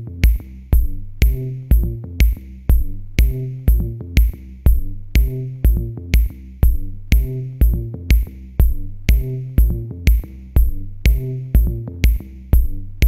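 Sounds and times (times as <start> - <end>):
bass line: 0.0 - 13.0
drum machine beat: 0.0 - 13.0.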